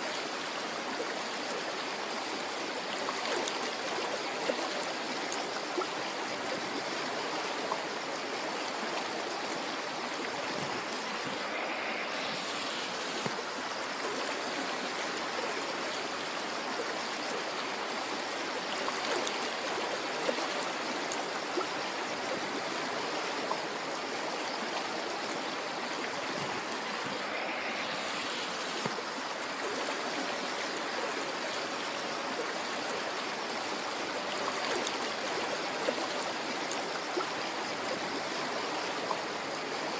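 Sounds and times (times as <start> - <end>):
river water rushing: 0.0 - 39.9
small water splashes: 0.0 - 39.9.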